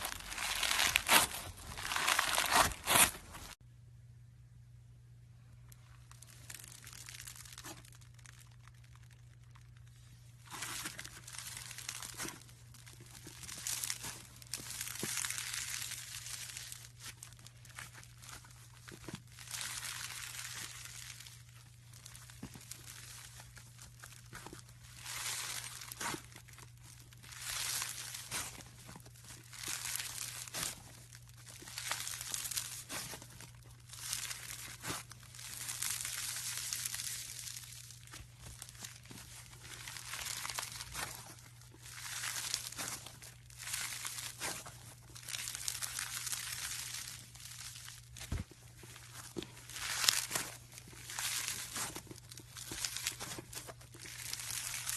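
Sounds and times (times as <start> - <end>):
slime squishing and crackling: 0.0 - 3.6, 5.7 - 54.9
low steady hum: 0.0 - 54.9.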